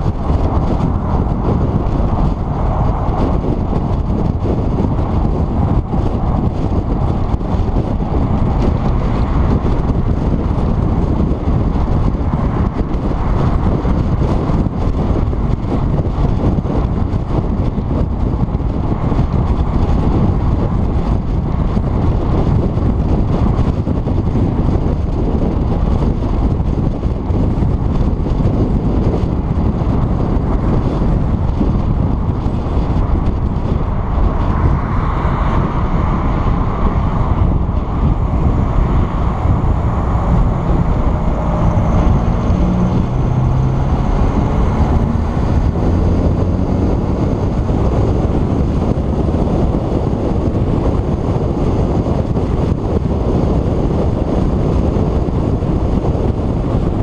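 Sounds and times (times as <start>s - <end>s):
car road noise at speed: 0.0s - 57.0s
wind buffeting microphone: 0.0s - 57.0s.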